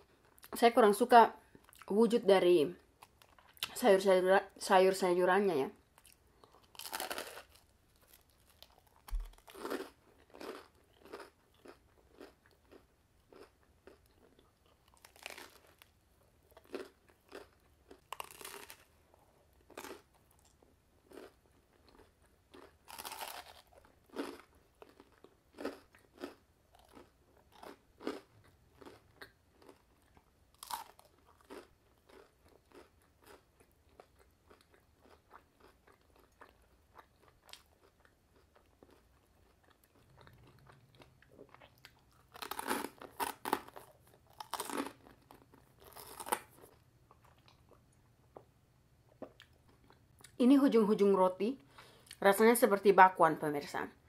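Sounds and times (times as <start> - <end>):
chewing crunchy bread: 0.0 - 0.6, 1.4 - 1.9, 2.8 - 3.7, 5.7 - 50.4.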